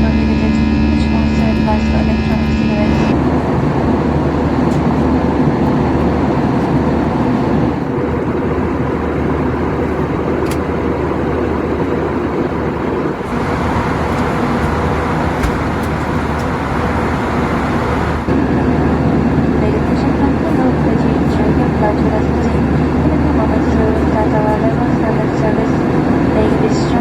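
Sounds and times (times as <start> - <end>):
aircraft cabin engine rush: 0.0 - 27.0
low hum: 0.0 - 27.0.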